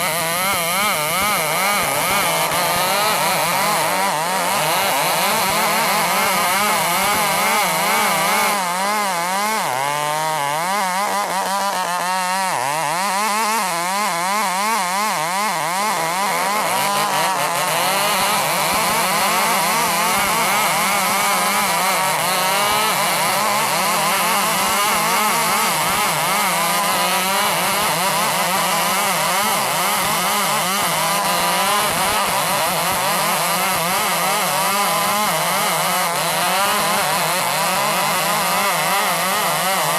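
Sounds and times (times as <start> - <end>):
chainsaws cutting timber: 0.0 - 39.9.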